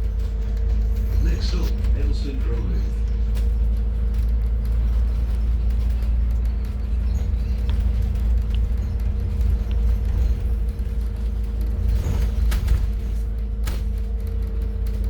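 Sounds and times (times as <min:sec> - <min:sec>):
bus body ticks and rattles: 0:00.0 - 0:15.0
bus engine and road drone: 0:00.0 - 0:15.0.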